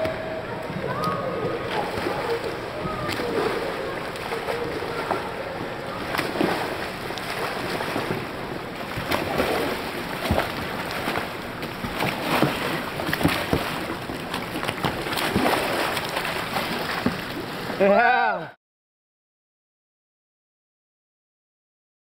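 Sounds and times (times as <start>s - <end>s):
water splashing around kayak: 0.0s - 18.0s
churning water: 0.0s - 18.6s.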